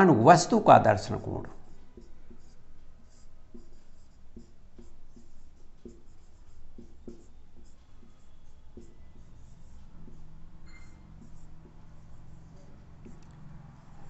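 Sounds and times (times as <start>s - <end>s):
marker scratching on whiteboard: 0.4s - 14.0s.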